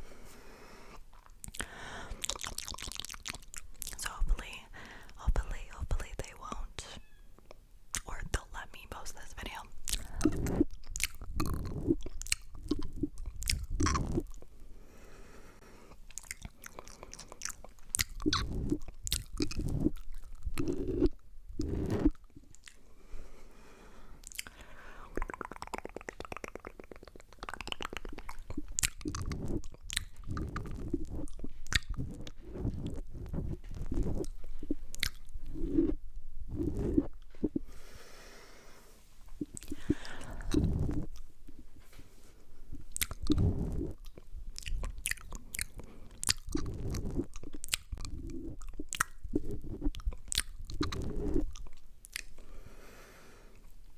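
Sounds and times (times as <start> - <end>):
wet mouth clicks and smacks: 1.1 - 6.7, 7.5 - 14.5, 15.9 - 22.9, 24.2 - 37.7, 39.3 - 41.6, 42.8 - 52.4.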